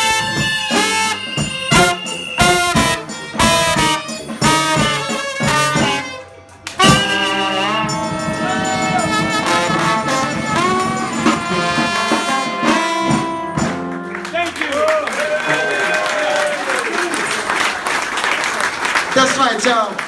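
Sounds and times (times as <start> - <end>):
brass band playing: 0.0 - 17.7.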